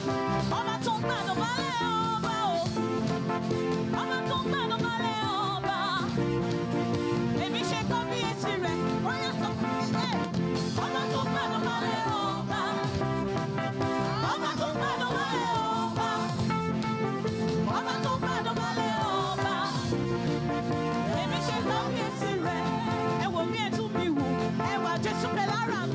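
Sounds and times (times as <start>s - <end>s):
instruments holding chords: 0.0s - 25.9s
person singing gospel melody: 0.0s - 25.9s.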